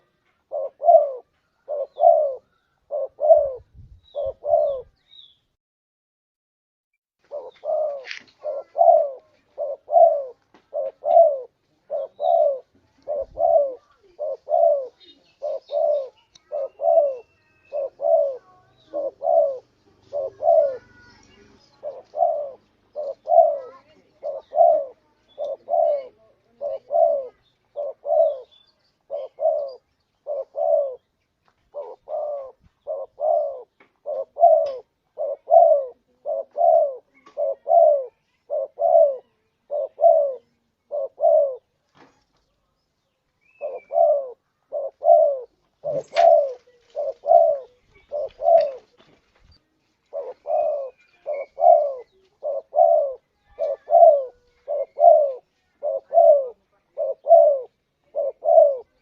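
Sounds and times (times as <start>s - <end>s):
dove cooing: 0.0s - 5.0s, 7.2s - 31.1s, 31.7s - 41.7s, 43.4s - 49.2s, 50.0s - 59.0s.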